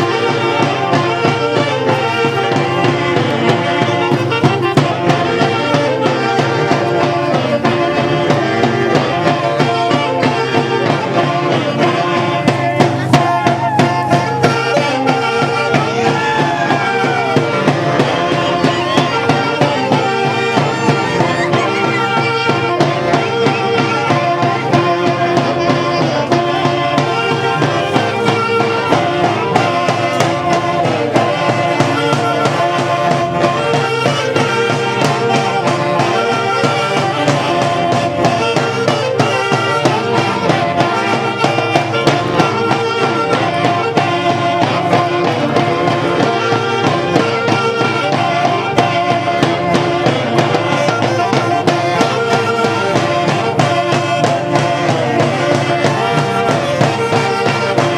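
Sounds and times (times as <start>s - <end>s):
reed wind instruments melody: 0.0s - 57.9s
steady beat: 0.0s - 57.9s.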